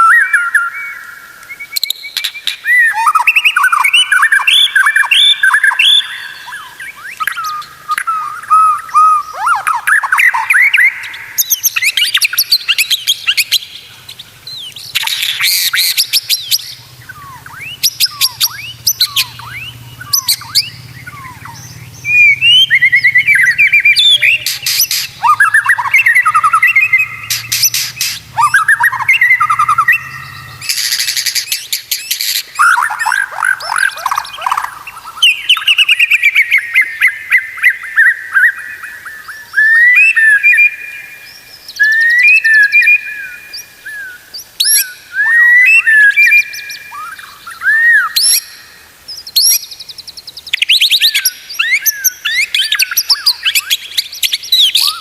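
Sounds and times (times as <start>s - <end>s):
songbird singing varied song: 0.0s - 55.0s.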